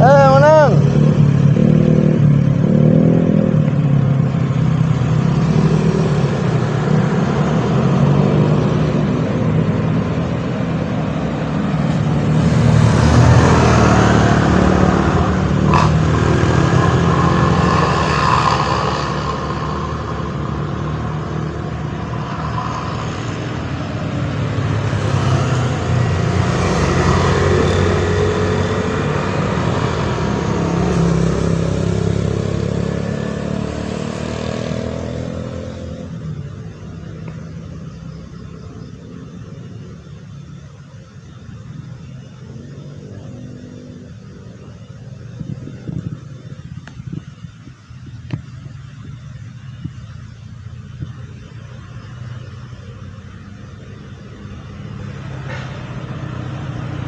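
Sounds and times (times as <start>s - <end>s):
car engines passing: 0.0s - 57.0s
motorcycles passing: 0.0s - 57.0s.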